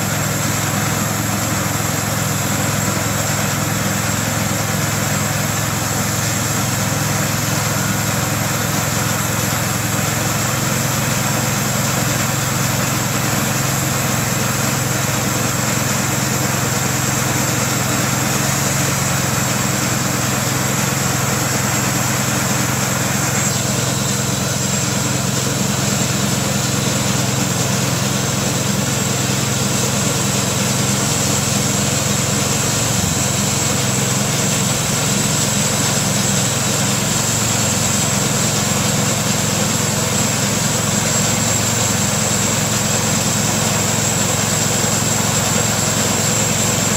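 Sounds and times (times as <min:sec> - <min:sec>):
band saw blade cutting log: 0:00.0 - 0:46.9
small gasoline engine running: 0:00.0 - 0:46.9.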